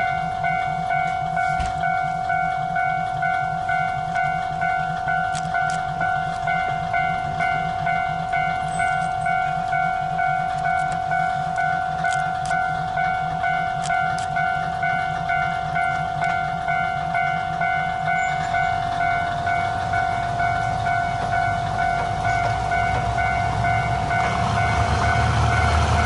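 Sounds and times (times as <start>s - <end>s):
idling diesel railcar engine: 0.0s - 26.0s
level-crossing warning bell ringing: 0.0s - 26.0s.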